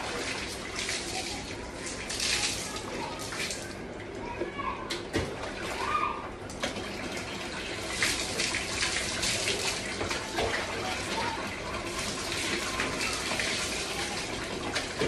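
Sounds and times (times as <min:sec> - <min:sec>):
water splashing onto wet floor: 0:00.0 - 0:03.8, 0:05.1 - 0:15.0.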